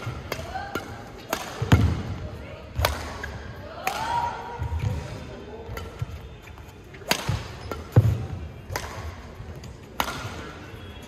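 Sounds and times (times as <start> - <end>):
racket striking shuttlecock: 0.0 - 5.1, 5.7 - 6.2, 6.9 - 11.0.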